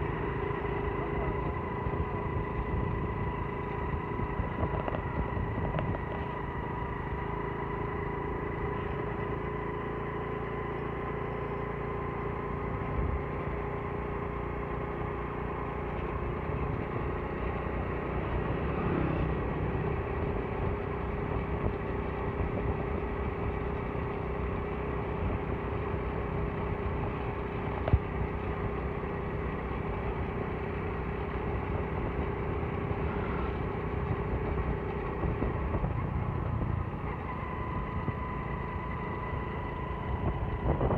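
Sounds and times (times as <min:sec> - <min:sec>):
road and wind noise: 0:00.0 - 0:40.9
vehicle engine hum: 0:00.0 - 0:40.9.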